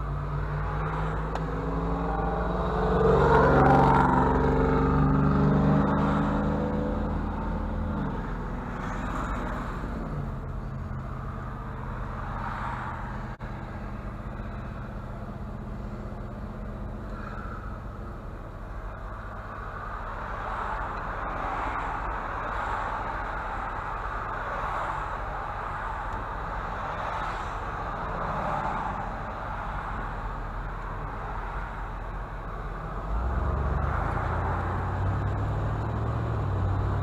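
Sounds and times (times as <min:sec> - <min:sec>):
pickup engine: 0:00.0 - 0:37.0
road noise: 0:00.0 - 0:37.0.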